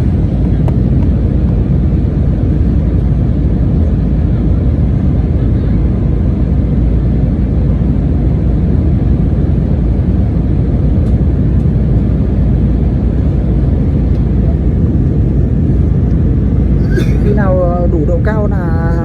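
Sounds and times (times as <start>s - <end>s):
airliner engines and rushing air: 0.0s - 19.0s.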